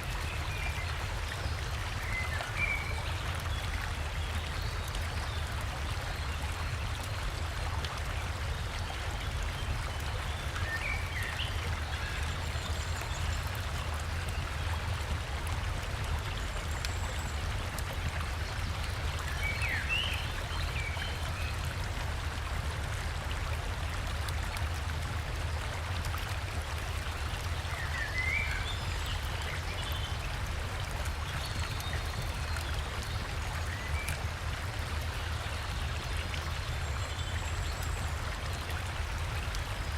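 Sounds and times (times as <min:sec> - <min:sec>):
river and waterfall flowing: 0:00.0 - 0:39.9.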